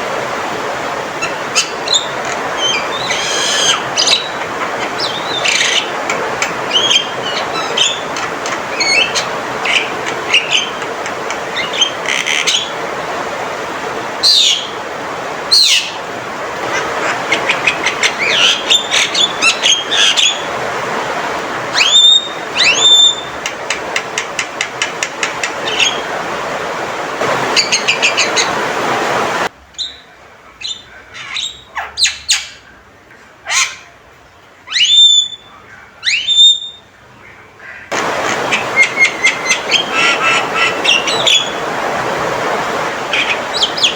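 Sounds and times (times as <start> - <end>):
steady hiss: 0.0 - 31.5, 37.0 - 43.9
myna bird calling: 1.0 - 13.3, 14.1 - 20.7, 21.6 - 26.2, 27.2 - 28.8, 29.4 - 32.7, 33.5 - 34.0, 34.7 - 42.0, 42.6 - 43.9.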